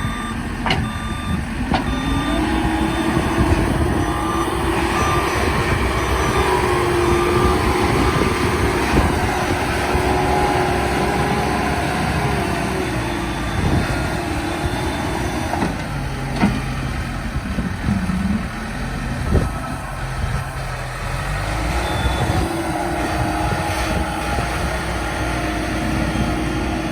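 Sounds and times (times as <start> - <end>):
backhoe diesel engine running: 0.0 - 26.9
clunks: 0.0 - 26.9.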